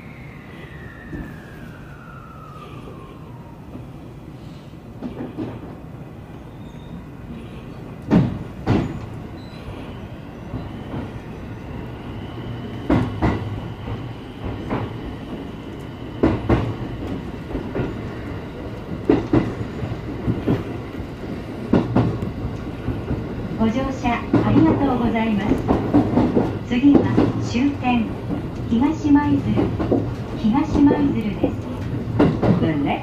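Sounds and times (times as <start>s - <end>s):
electric train humming: 0.0s - 33.0s.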